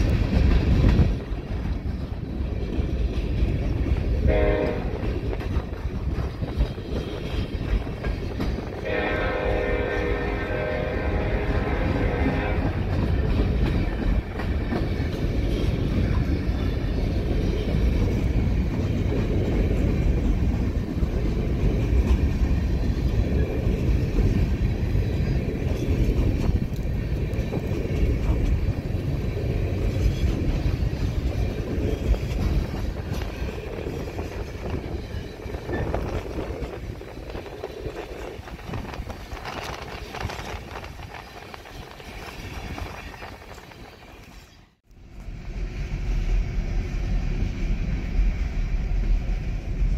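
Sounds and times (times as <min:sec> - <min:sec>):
train cars rumbling on rails: 0:00.0 - 0:49.9.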